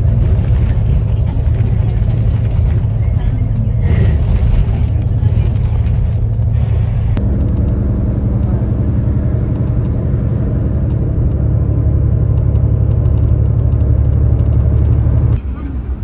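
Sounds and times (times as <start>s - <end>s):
low rumble of moving vehicle: 0.0s - 16.0s.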